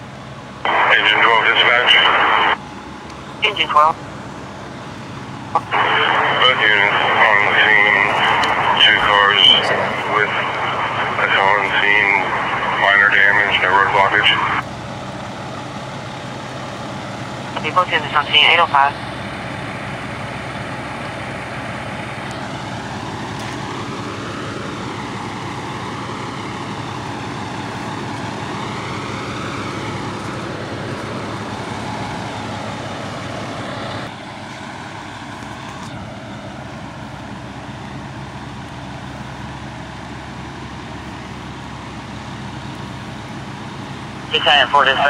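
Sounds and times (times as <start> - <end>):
diesel engines idling: 0.0 - 45.0.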